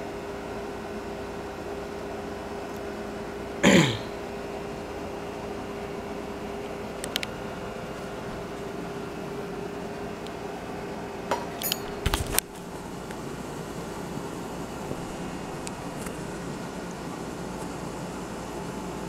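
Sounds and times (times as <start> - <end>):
room hum with faint tone: 0.0 - 19.0.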